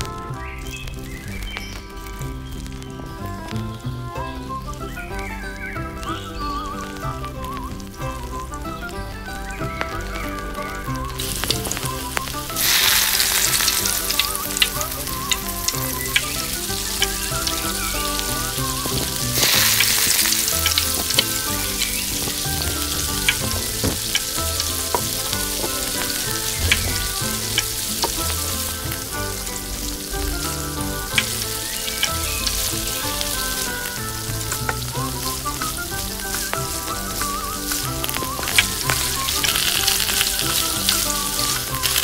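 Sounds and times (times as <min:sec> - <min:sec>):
eggs sizzling in hot oil: 0:00.0 - 0:42.0.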